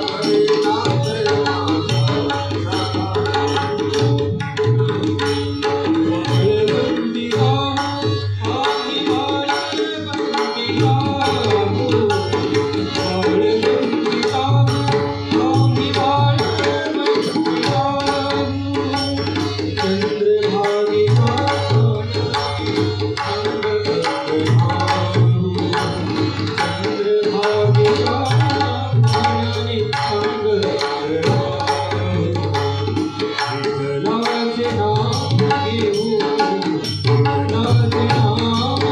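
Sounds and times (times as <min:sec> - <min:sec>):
tabla and mridang drumming: 0:00.0 - 0:38.9.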